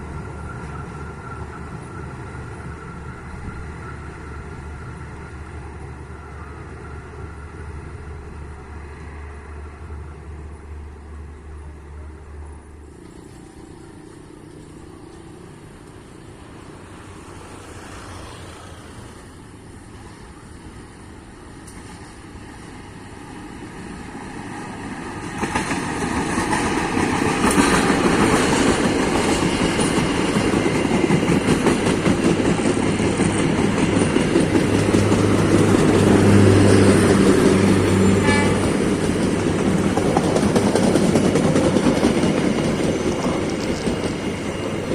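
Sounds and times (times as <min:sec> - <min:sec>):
train wheels rumbling over rails: 0:00.0 - 0:44.9.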